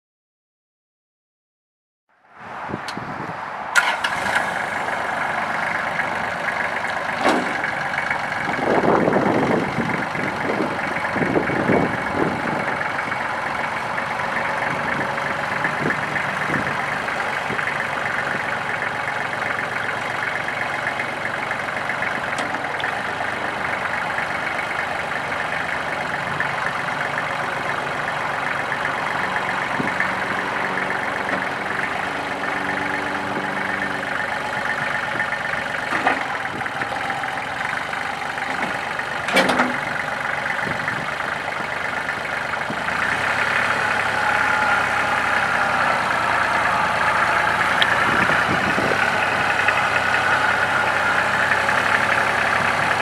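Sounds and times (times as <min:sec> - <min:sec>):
tractor diesel engine running: 0:02.4 - 0:53.0
engine knocks: 0:03.8 - 0:53.0.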